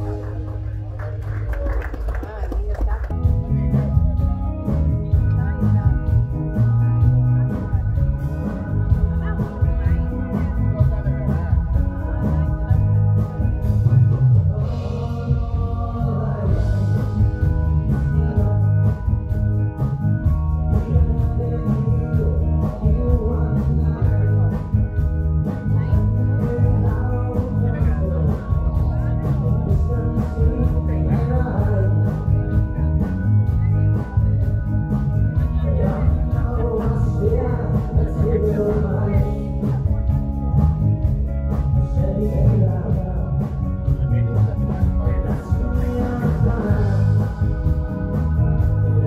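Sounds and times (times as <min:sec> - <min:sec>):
live band playing dance music: 0:00.0 - 0:49.0
person singing: 0:07.0 - 0:19.4, 0:20.6 - 0:34.6, 0:35.3 - 0:40.8, 0:41.5 - 0:49.0.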